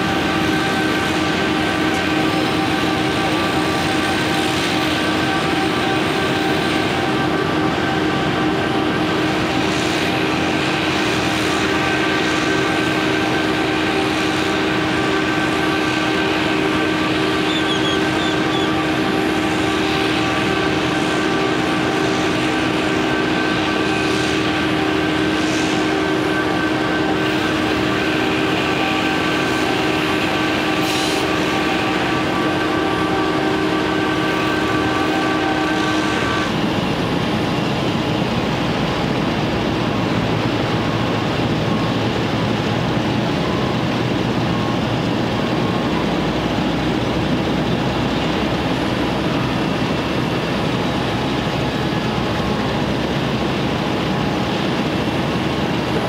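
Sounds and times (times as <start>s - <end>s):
heavy machinery drone: 0.0s - 56.0s.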